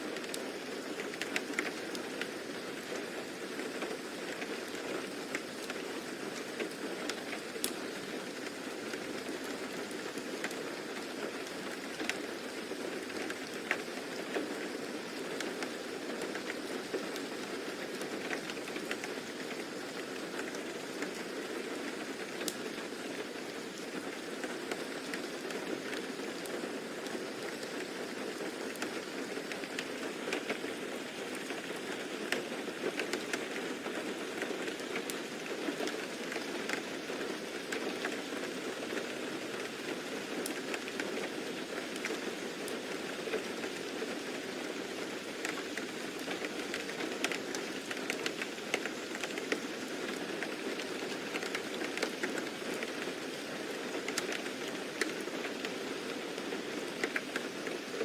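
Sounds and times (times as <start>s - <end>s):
steady rain falling on a surface: 0.0s - 58.0s.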